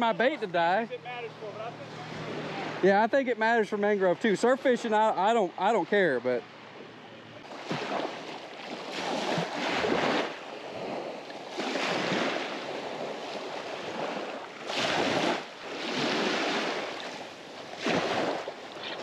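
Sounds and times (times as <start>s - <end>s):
small waves washing on sand: 0.0s - 19.0s.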